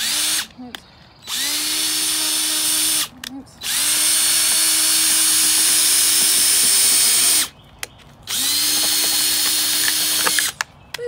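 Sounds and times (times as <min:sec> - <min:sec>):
electric drill running: 0:00.0 - 0:00.5, 0:01.3 - 0:07.5, 0:08.3 - 0:10.6.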